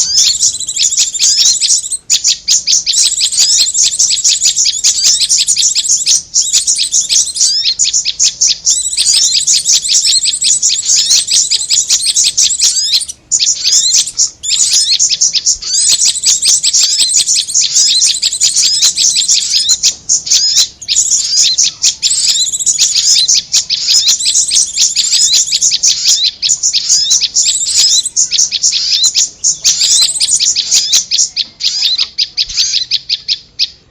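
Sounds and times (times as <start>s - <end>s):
songbirds chirping and twittering: 0.0s - 33.9s.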